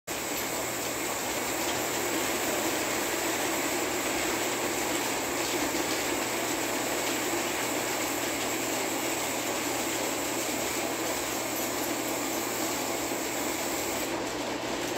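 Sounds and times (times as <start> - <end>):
model train rolling on track: 0.1 - 14.9.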